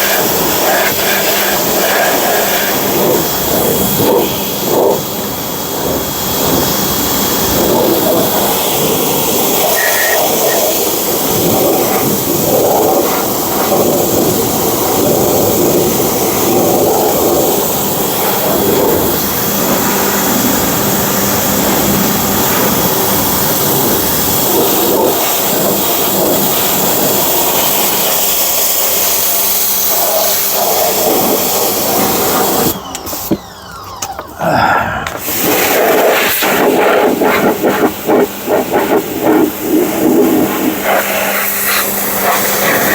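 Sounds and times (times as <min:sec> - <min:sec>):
pressure washer spraying: 0:00.0 - 0:42.9.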